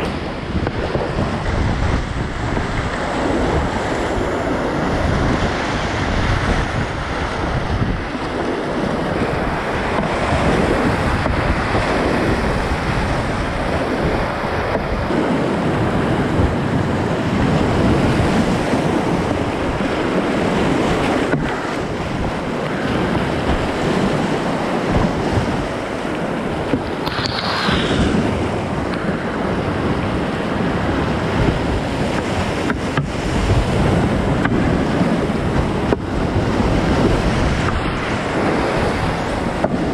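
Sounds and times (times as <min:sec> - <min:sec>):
whitewater rushing over rocks: 0:00.0 - 0:39.9.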